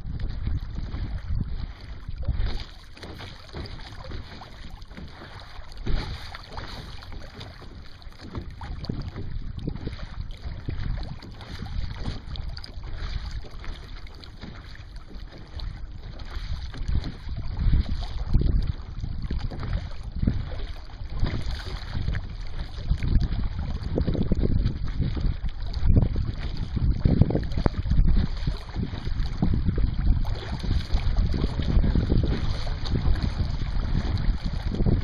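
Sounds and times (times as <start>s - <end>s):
water washing along hull: 0.0s - 35.0s
wind buffeting microphone: 0.0s - 35.0s.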